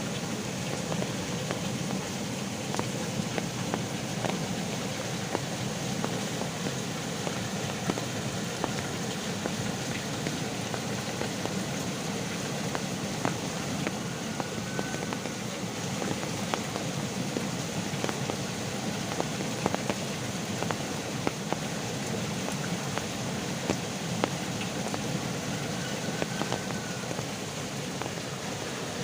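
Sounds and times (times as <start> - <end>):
heavy rain hissing: 0.0 - 29.0
raindrops clicking: 0.0 - 29.0.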